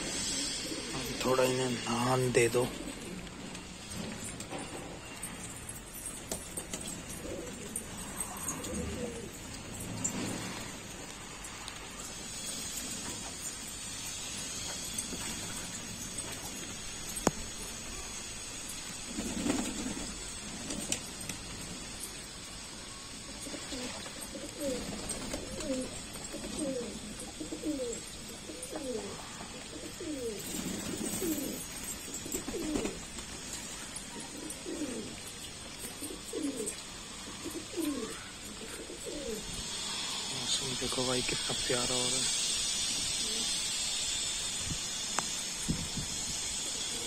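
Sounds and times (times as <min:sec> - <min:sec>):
pigeons cooing: 0:00.0 - 0:22.3, 0:23.1 - 0:40.5, 0:42.4 - 0:43.9, 0:46.1 - 0:47.0
rain hissing: 0:00.0 - 0:47.0.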